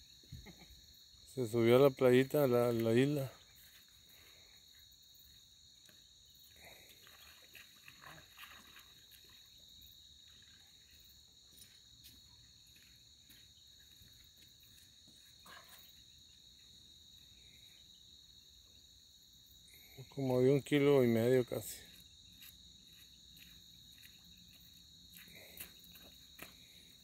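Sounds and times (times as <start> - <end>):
night insects chirring: 0.0 - 27.0.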